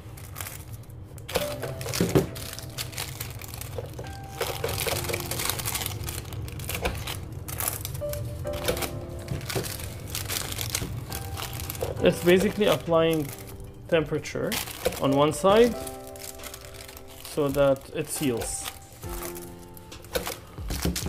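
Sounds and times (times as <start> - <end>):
plastic bags crinkling: 0.0 - 21.0
soft background music: 0.0 - 21.0.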